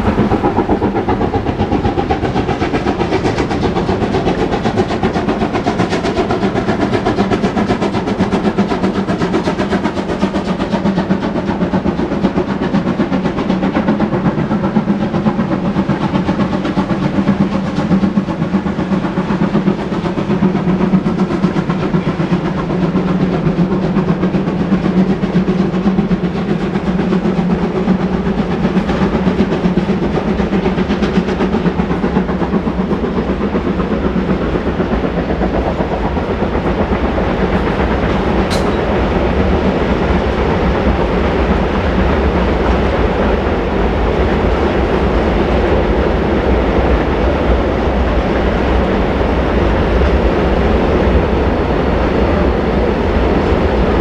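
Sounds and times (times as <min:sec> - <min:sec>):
steam locomotive exhaust beating: 0:00.0 - 0:54.0
train wheels clattering on rails: 0:00.0 - 0:54.0.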